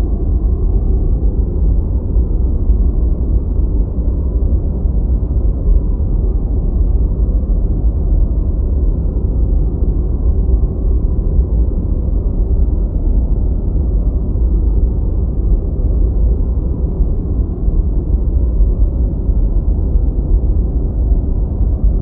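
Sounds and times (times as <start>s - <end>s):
deep white noise: 0.0s - 22.0s.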